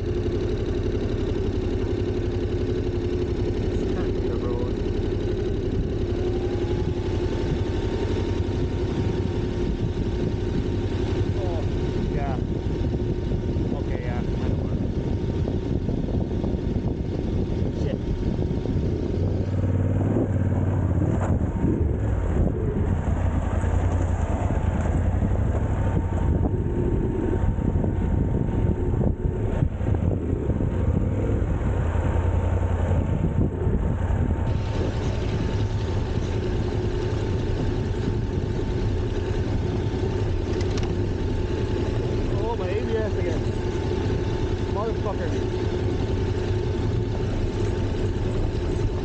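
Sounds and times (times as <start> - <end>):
road and wind noise: 0.0 - 49.0
vehicle engine running: 0.0 - 49.0.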